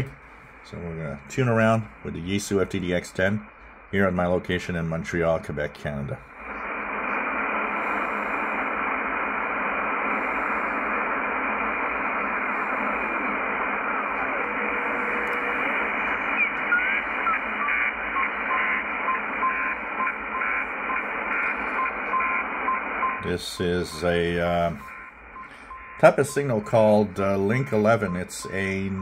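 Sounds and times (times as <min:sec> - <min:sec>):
shortwave radio hiss: 0:00.0 - 0:29.0.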